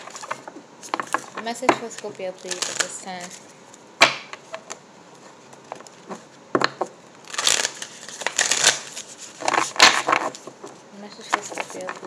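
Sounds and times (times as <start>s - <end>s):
riffle shuffle of cards: 0.0s - 12.0s.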